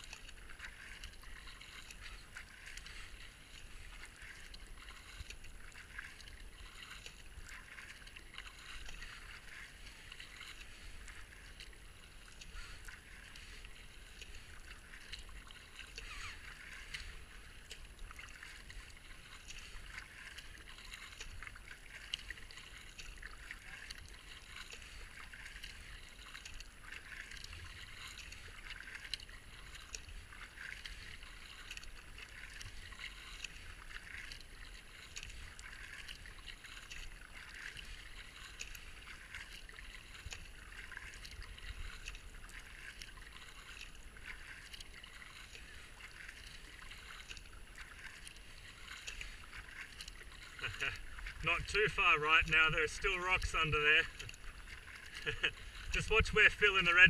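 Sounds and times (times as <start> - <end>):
kayak paddle strokes: 0.0 - 57.0
water splashing and gurgling: 0.0 - 57.0.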